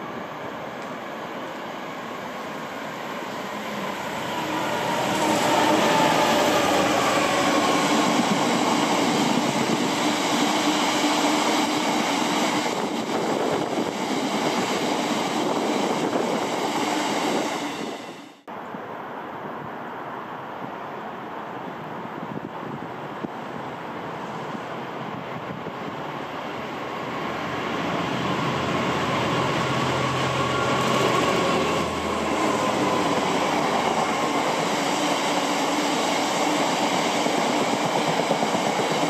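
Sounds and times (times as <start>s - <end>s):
diesel locomotive passing: 0.0s - 39.0s.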